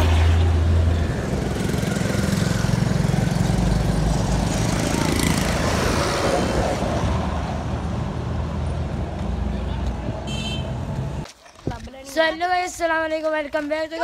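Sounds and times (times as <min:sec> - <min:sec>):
road traffic passing: 0:00.0 - 0:11.4.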